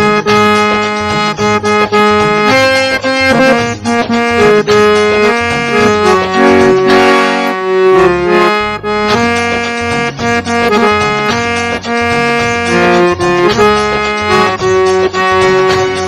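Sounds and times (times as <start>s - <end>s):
harmonium playing melody: 0.0s - 16.0s.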